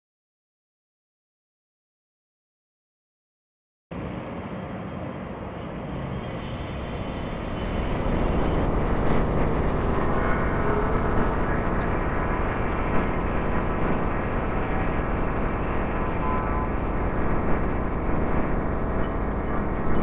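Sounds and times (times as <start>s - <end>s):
distant city traffic: 3.9s - 20.0s.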